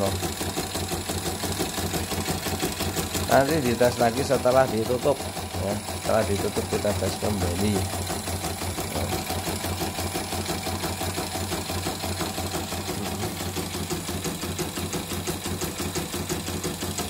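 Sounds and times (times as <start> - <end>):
embroidery machine needle clatter: 0.0 - 17.0
motor hum: 0.0 - 17.0.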